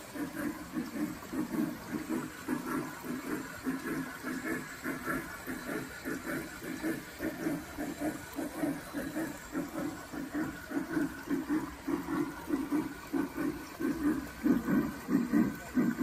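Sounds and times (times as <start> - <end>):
model steam locomotive chuffing: 0.0 - 16.0
steady steam hiss: 0.0 - 16.0.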